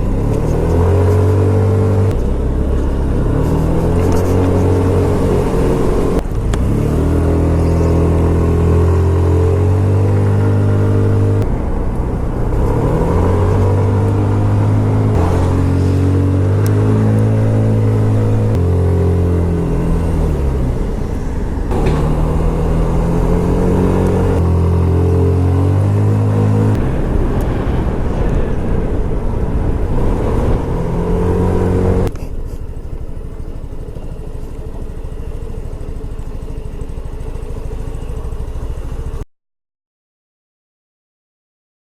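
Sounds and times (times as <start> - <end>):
scooter engine running: 0.0 - 39.2.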